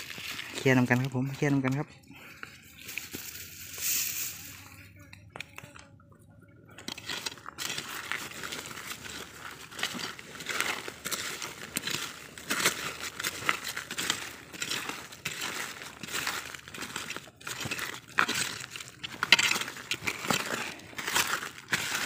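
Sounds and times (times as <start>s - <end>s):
hand scraping leaves and soil: 0.0s - 5.8s, 6.7s - 22.0s.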